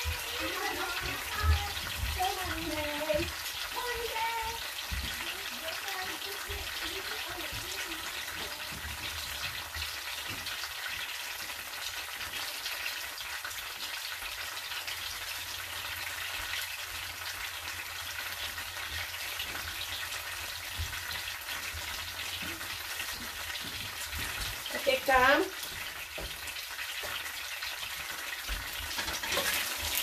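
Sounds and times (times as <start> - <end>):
coconut milk sizzling in a pan: 0.0 - 30.0.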